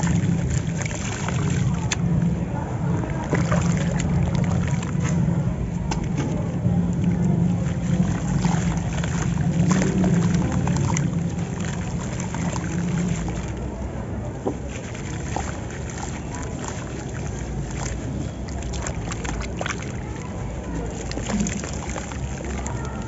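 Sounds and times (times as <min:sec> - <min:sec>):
gritty crackles of wet cement: 0:00.0 - 0:13.8, 0:14.4 - 0:23.0
low steady rumble: 0:00.0 - 0:23.0
water sloshing in a plastic tub: 0:00.0 - 0:23.0.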